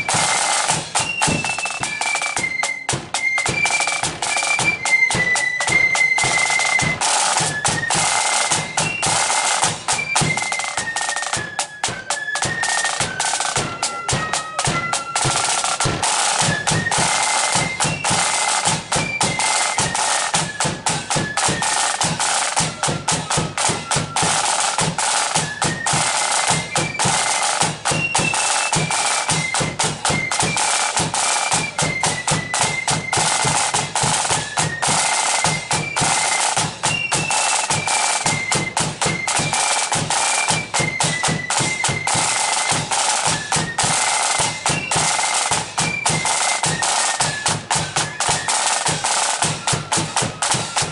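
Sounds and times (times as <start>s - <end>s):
high flute melody: 0.0s - 50.9s
snare drum rolls: 0.0s - 50.9s.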